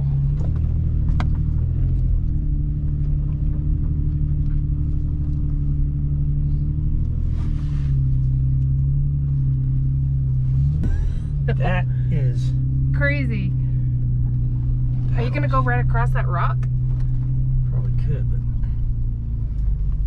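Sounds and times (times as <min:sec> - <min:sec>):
engine droning over rough trail: 0:00.0 - 0:20.0.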